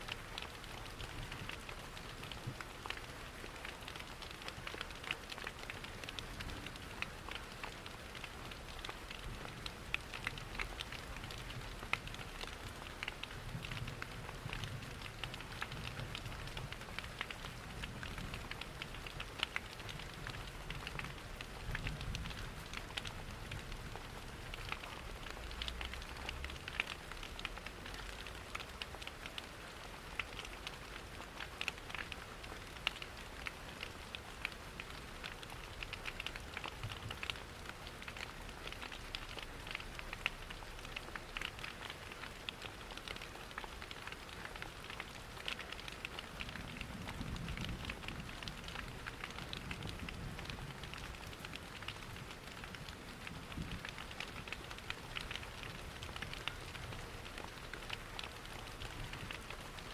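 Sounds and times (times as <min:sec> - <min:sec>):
fire crackles and pops: 0:00.0 - 0:59.9
rain hiss: 0:00.0 - 0:59.9.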